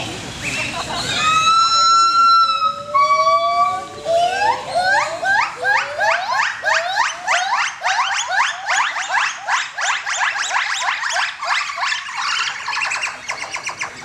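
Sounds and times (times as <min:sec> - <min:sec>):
langurs calling: 0:00.4 - 0:14.0.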